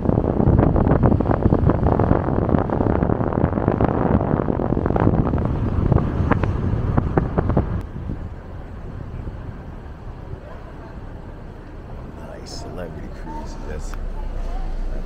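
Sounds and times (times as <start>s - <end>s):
car rumbling on road: 0.0s - 15.0s
wind buffeting microphone: 0.0s - 15.0s.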